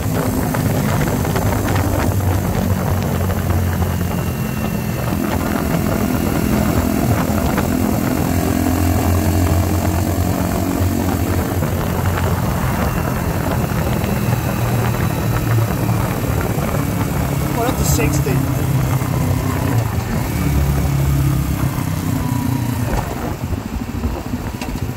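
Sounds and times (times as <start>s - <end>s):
motorcycle engine droning: 0.0s - 24.9s
wind noise on microphone: 0.0s - 24.9s.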